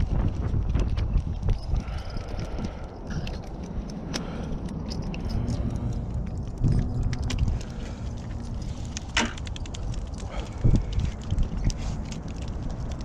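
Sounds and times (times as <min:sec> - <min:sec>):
wind buffeting microphone: 0:00.0 - 0:13.0
light clicks and taps: 0:00.7 - 0:13.0.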